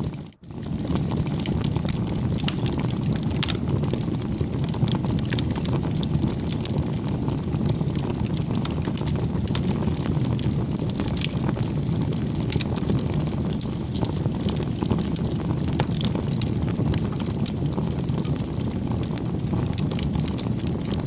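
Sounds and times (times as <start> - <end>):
wood fire crackling: 0.0 - 21.0
fire low rush: 0.5 - 21.0.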